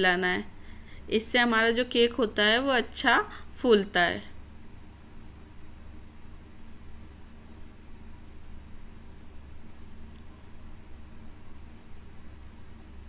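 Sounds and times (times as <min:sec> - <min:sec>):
cricket chirring: 0:00.0 - 0:13.0
faint low hum: 0:00.0 - 0:13.0.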